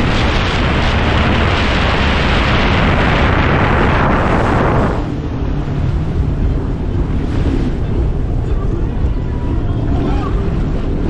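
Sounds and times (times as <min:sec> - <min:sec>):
boat engine humming: 0:00.0 - 0:11.0
wind buffeting microphone: 0:00.0 - 0:11.0.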